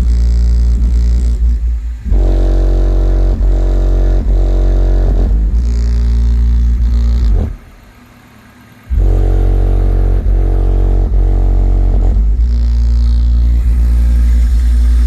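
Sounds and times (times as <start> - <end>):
deep bass beat from subwoofers: 0.0 - 8.1, 8.9 - 15.0.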